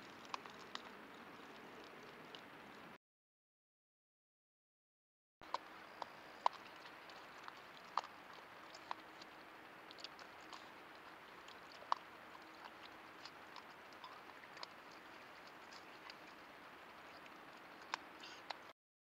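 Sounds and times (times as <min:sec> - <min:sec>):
raccoon chewing: 0:00.0 - 0:02.8, 0:05.4 - 0:18.7.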